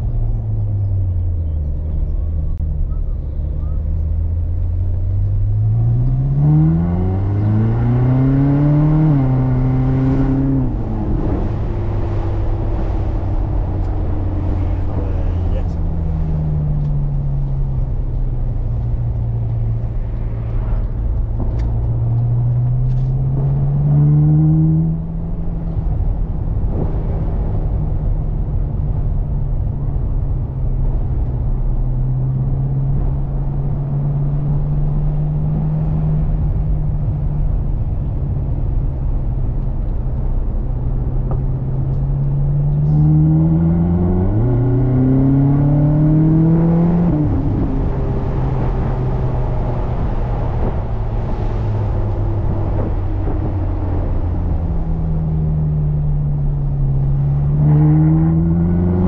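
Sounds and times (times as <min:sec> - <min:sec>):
car engine revving: 0:04.0 - 0:36.8, 0:40.7 - 0:59.0.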